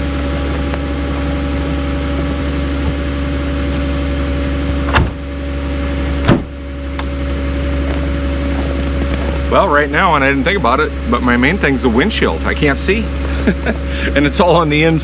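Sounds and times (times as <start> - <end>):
heater fan blowing air: 0.0 - 15.0
van engine idling: 0.0 - 15.0.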